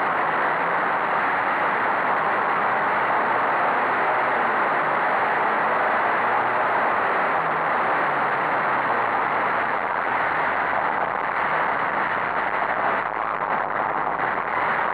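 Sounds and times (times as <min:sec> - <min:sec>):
wind and road noise: 0:00.0 - 0:14.9.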